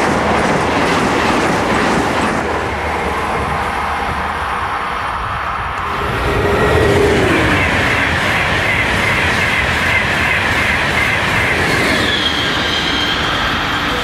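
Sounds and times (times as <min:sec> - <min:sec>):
electric train passing at speed: 0:00.0 - 0:14.0.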